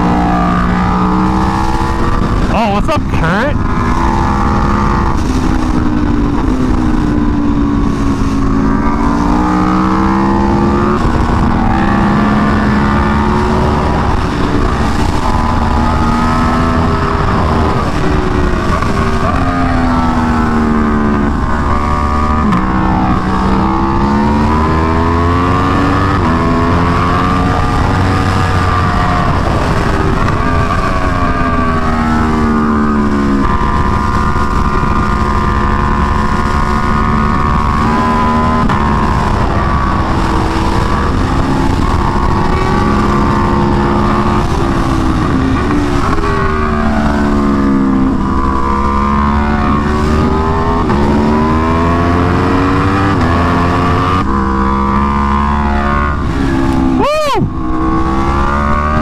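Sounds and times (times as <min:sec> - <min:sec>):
wind on microphone: 0:00.0 - 0:03.0, 0:03.6 - 0:59.0
motorcycle engine revving: 0:00.0 - 0:59.0.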